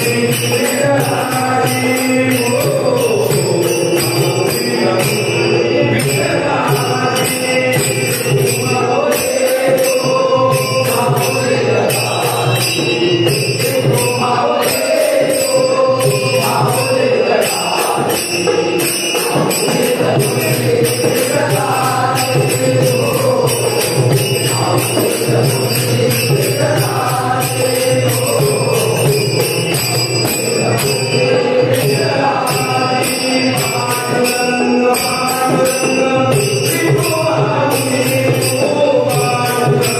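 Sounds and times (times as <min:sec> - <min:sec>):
small hand cymbals beating: 0:00.0 - 0:39.9
voices singing devotional chant: 0:00.0 - 0:39.9.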